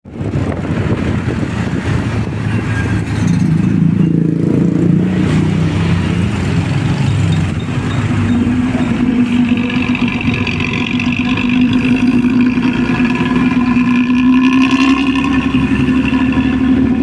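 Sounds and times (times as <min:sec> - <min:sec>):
bus engine deep growl: 0:00.0 - 0:17.0.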